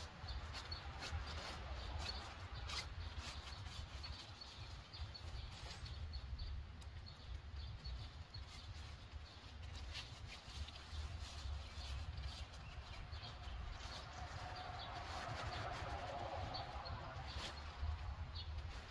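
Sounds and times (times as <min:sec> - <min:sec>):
tent fabric rustling: 0:00.0 - 0:06.2, 0:08.0 - 0:18.9
light clicks of tent poles: 0:00.0 - 0:18.9
low wind rumble on microphone: 0:00.0 - 0:18.9.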